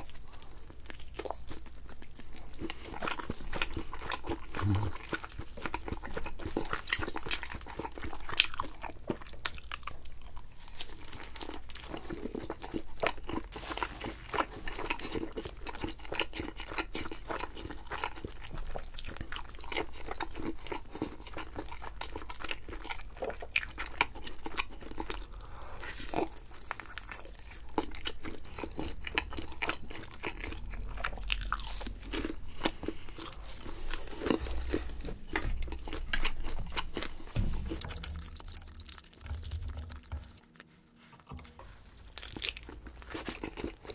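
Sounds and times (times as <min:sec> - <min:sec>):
chewing and crunching pizza: 0:00.0 - 0:43.9.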